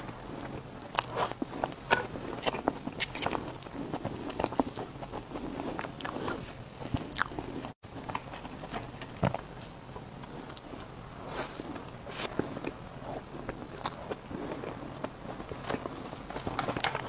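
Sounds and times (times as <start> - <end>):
biting and chewing clicks: 0.0 - 9.5, 10.2 - 10.9, 11.8 - 17.0.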